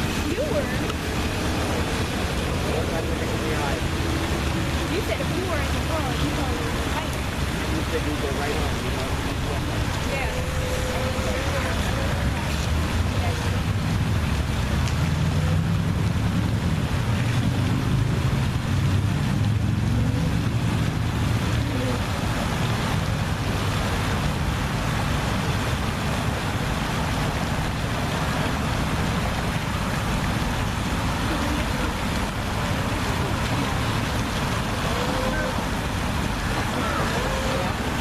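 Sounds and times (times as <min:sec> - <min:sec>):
water rushing: 0:00.0 - 0:38.0.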